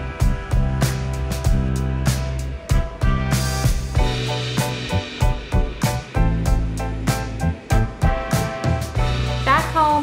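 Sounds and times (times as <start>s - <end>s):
music with steady beat and bass: 0.0s - 10.0s.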